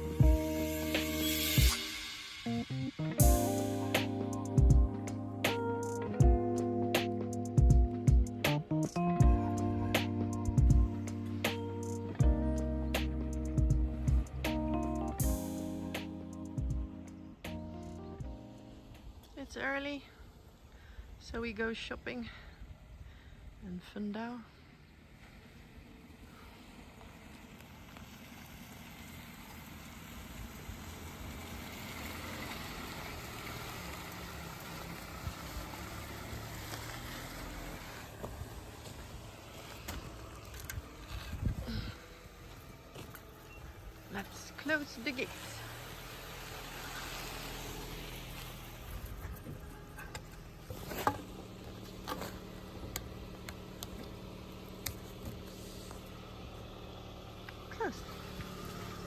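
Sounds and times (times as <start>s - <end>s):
car engine running: 0.0s - 20.6s, 24.2s - 59.0s.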